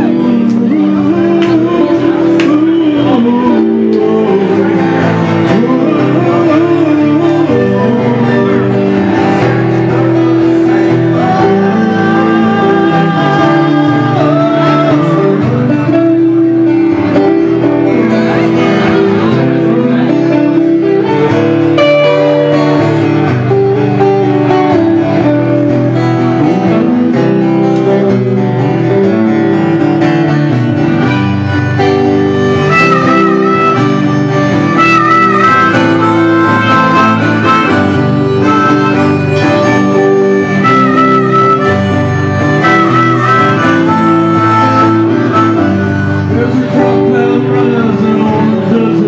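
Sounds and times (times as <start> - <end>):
guitars strumming: 0.0 - 49.0
harmonica solo: 4.4 - 47.2.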